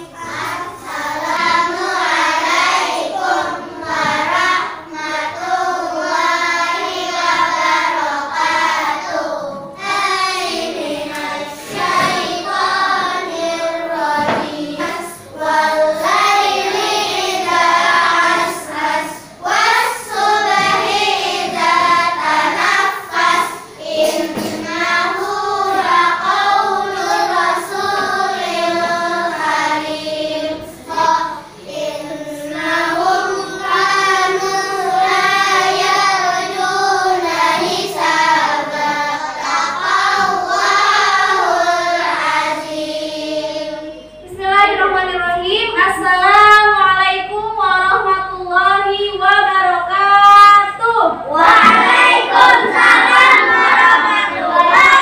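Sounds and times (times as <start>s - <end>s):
children chanting in unison: 0.0s - 44.3s, 50.7s - 55.0s.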